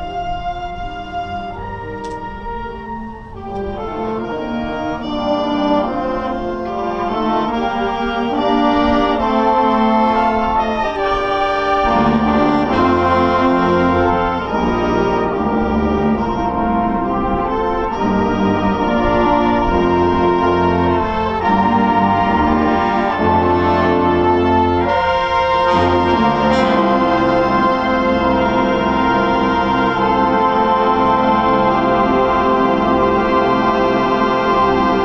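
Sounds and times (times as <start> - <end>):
low brass bass notes: 0.0 - 35.0
wind band playing chorale: 0.0 - 35.0.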